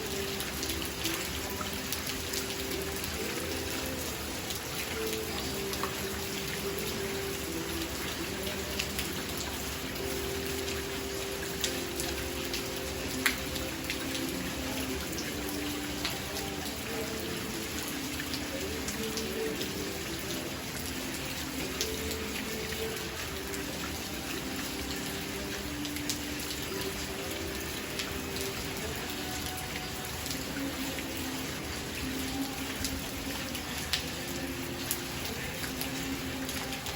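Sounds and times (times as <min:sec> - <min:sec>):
raindrops ticking on hard surface: 0:00.0 - 0:36.9
steady rain hiss: 0:00.0 - 0:36.9.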